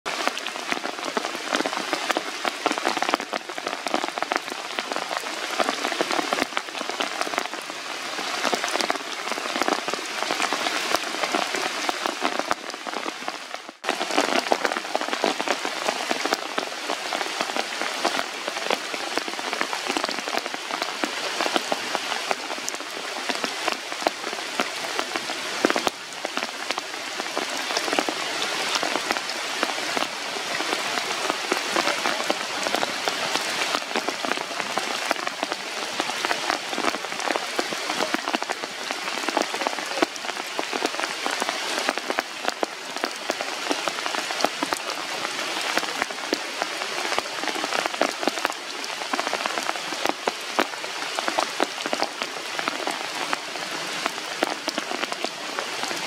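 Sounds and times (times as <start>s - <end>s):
rain falling on leaves: 0.1s - 56.0s.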